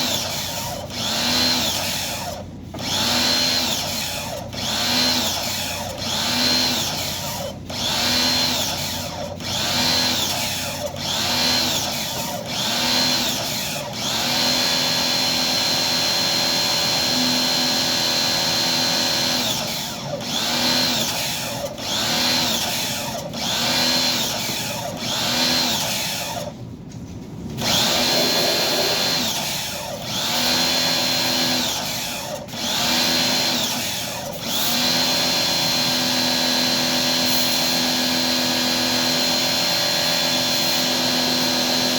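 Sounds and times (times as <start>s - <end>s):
power tool motor spinning up: 0.0s - 26.5s, 27.6s - 41.9s.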